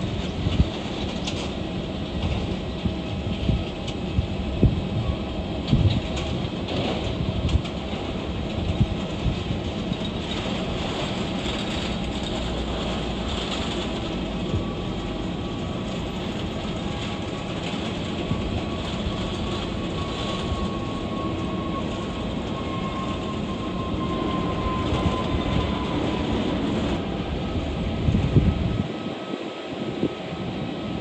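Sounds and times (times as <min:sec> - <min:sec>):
jet engine noise: 0:00.0 - 0:31.0.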